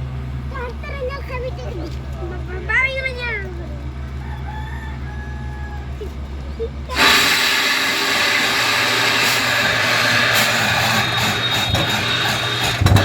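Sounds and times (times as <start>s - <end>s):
drilling rig running: 0.0s - 13.0s.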